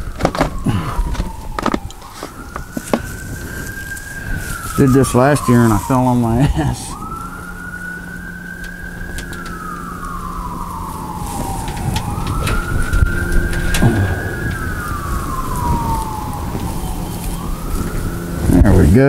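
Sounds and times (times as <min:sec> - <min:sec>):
siren wailing: 0:00.0 - 0:19.0.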